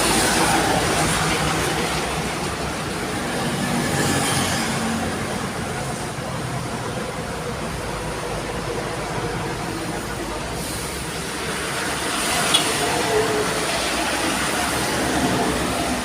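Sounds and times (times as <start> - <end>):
heavy vehicles passing on highway: 0.0 - 16.0.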